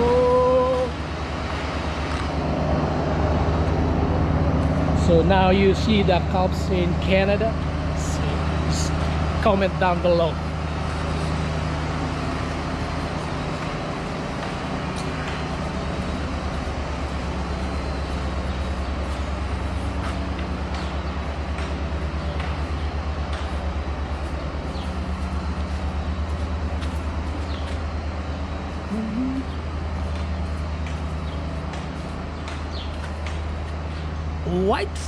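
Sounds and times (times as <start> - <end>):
machinery drone pulsing: 0.0 - 35.0.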